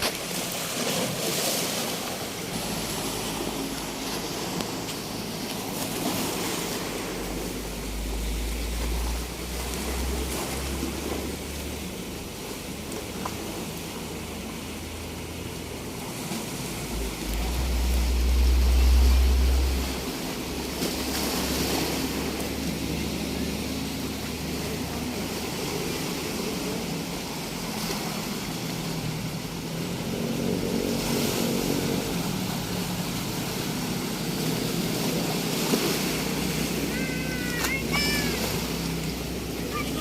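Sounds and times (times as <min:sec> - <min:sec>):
engine droning: 0:00.0 - 0:40.0
sea waves washing on shore: 0:00.0 - 0:40.0.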